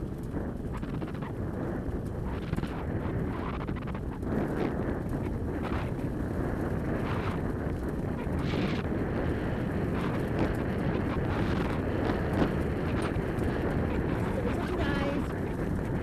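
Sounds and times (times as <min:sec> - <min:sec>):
dog sled rig rumbling on dirt: 0:00.0 - 0:16.0
faint rattles: 0:00.0 - 0:16.0
wind buffeting microphone: 0:00.0 - 0:16.0.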